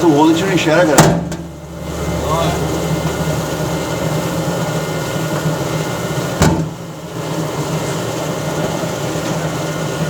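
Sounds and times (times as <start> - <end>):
dough sheeter rollers humming: 0.0 - 10.0.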